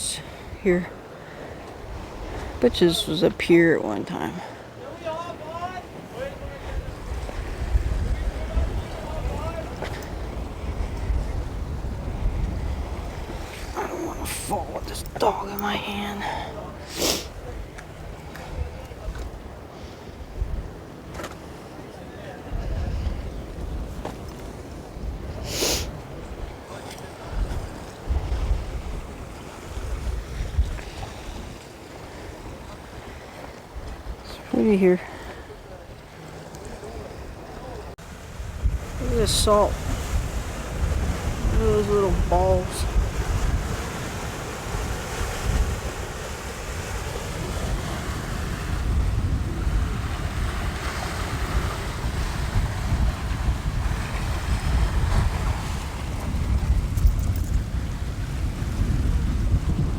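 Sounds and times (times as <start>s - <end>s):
ocean surf: 0.0s - 59.9s
wind buffeting microphone: 0.0s - 59.9s.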